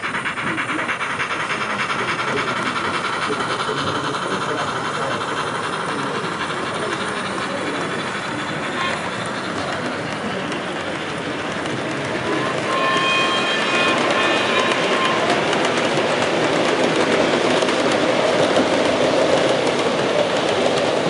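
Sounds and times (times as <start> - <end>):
model train running on track: 0.0 - 21.0.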